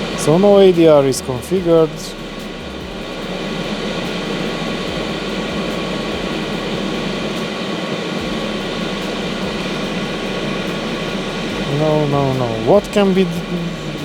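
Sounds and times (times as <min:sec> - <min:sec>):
diesel air heater humming: 0:00.0 - 0:14.0.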